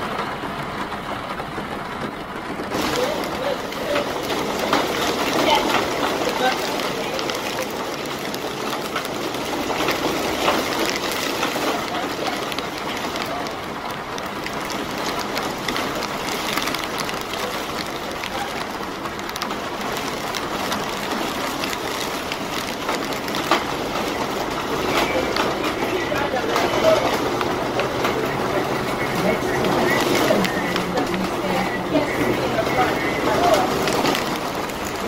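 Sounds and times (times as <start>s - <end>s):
heavy rain on an umbrella: 0.0s - 35.0s.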